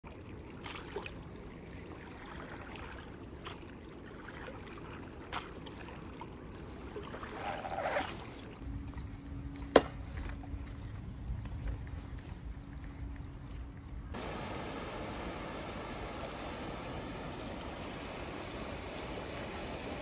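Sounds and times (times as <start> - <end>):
water lapping: 0.0 - 20.0
steady low hum: 0.1 - 20.0.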